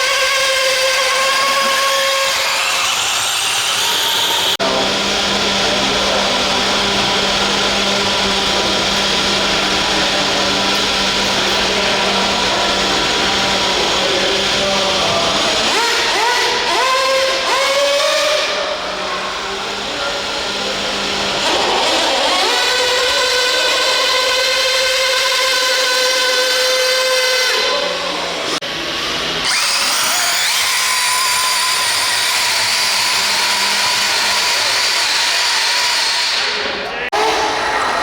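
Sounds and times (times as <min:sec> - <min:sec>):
toy truck motor whining: 0:00.0 - 0:38.0.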